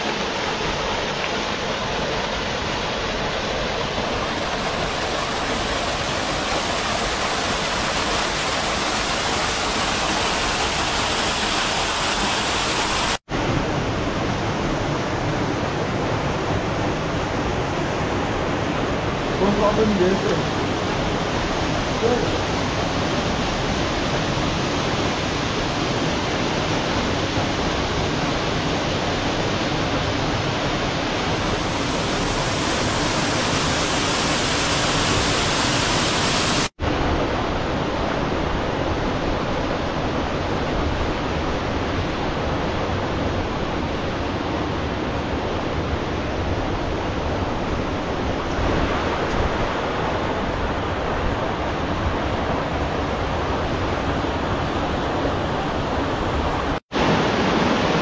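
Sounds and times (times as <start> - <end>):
water rushing through gorge: 0.0 - 58.0.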